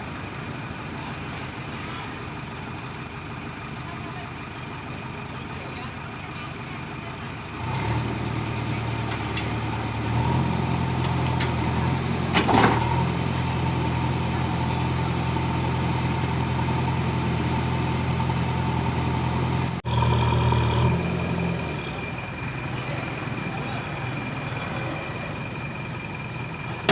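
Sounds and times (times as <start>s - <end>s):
diesel backhoe engine working: 0.0s - 26.9s.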